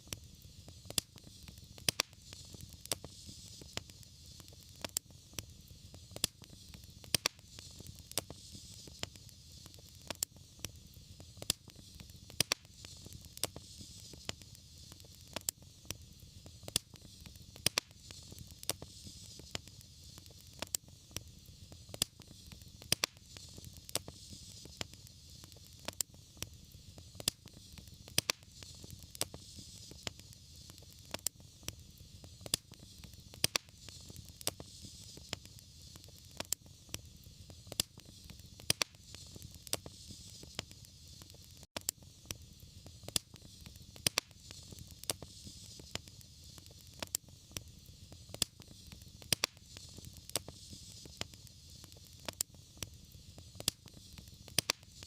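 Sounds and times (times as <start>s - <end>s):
low rumble of burning: 0.0s - 55.0s
wood fire crackling and popping: 0.0s - 55.0s.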